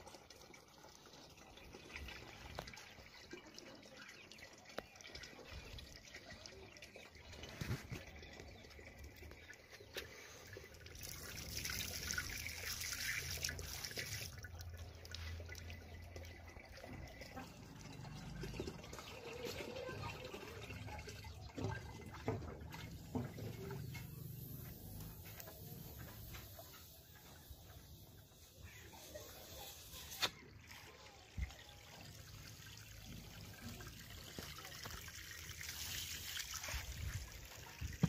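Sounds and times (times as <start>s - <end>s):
water trickling into water: 0.0s - 38.0s.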